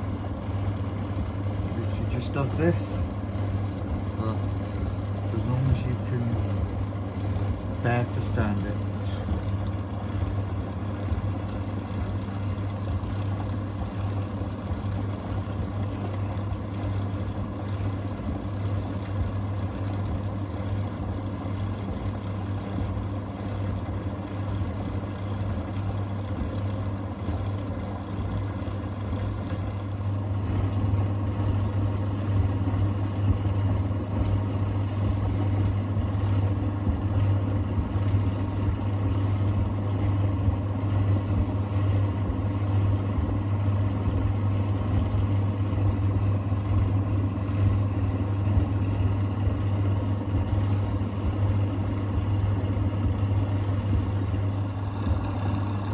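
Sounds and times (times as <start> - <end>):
tumble dryer humming: 0.0 - 55.9.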